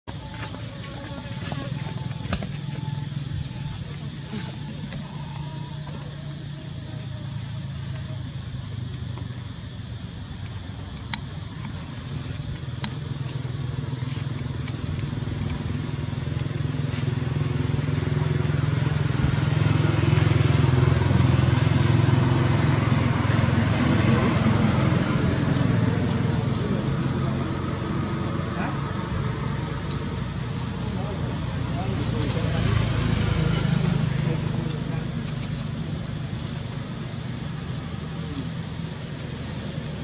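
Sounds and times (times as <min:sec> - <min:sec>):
vehicle engine rumble: 0:00.0 - 0:40.0
high-pitched hiss: 0:00.1 - 0:40.0.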